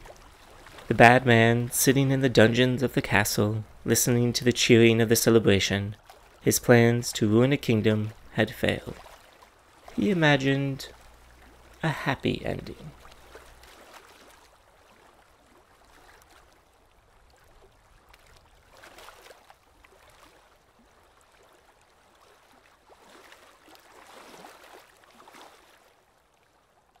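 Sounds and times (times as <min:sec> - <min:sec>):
faint running water: 0:00.0 - 0:27.0.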